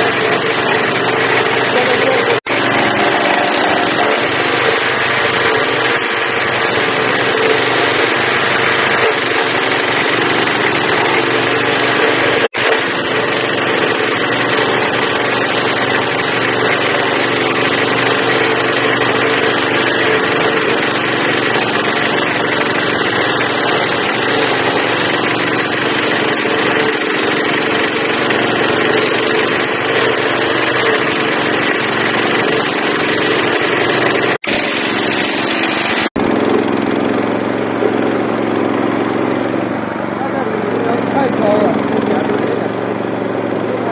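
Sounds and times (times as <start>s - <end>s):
stump grinder engine running: 0.0s - 43.9s.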